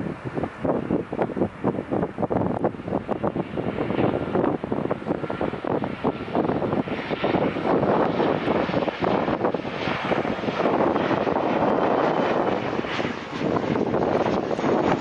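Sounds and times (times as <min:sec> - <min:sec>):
jet engine noise overhead: 0:00.0 - 0:15.0
wind on microphone: 0:00.0 - 0:15.0.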